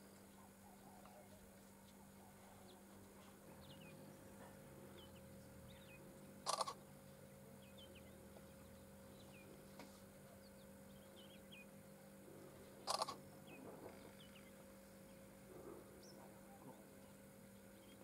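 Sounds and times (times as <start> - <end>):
steady low hum: 0.0 - 18.0
small birds chirping: 2.4 - 18.0.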